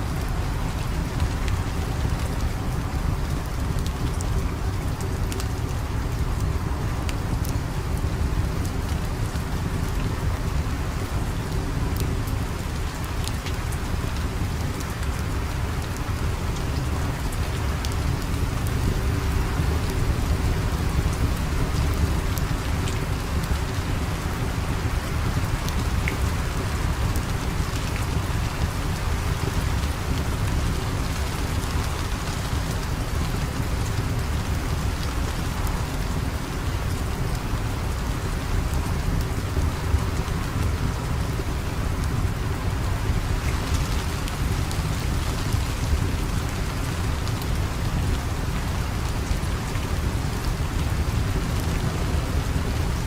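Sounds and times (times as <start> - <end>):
heavy rain hissing: 0.0 - 53.0.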